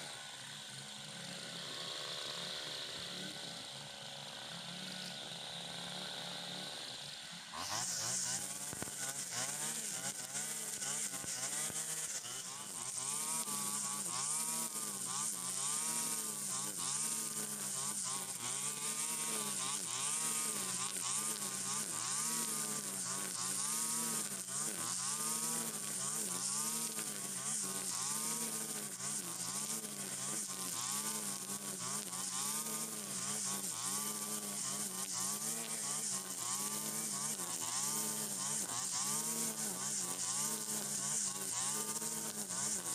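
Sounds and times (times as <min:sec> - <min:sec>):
brush cutter cutting grass: 0:00.0 - 0:42.9.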